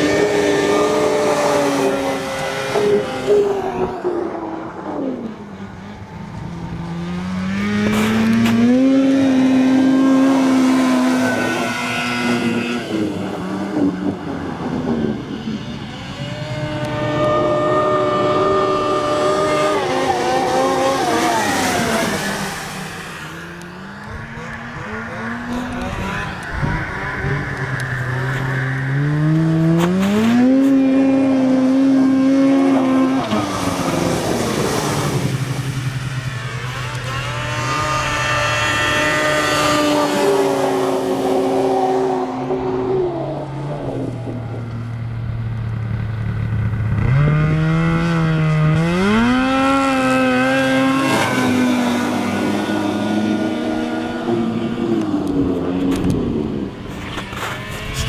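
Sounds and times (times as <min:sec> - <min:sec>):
snowmobile engines revving: 0:00.0 - 0:58.0.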